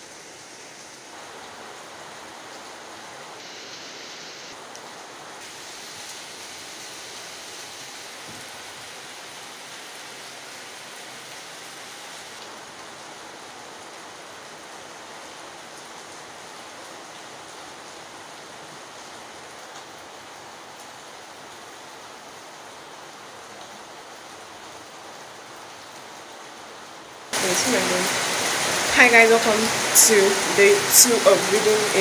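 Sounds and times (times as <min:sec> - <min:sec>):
steady rain hissing: 0:00.0 - 0:32.0.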